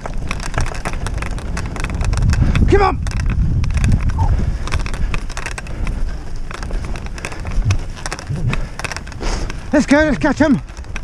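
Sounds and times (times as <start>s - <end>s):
wheels rolling over rutted dirt track: 0.0s - 11.0s
wind on microphone: 0.0s - 11.0s.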